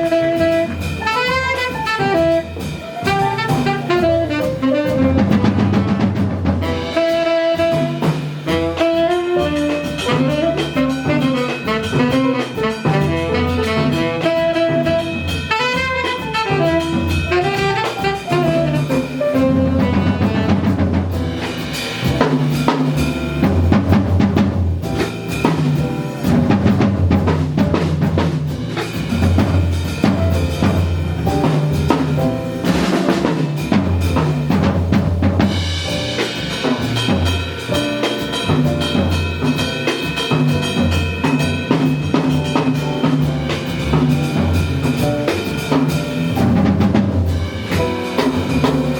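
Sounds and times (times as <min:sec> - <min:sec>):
drum kit: 0:00.0 - 0:48.9
jazz band playing: 0:00.0 - 0:48.9.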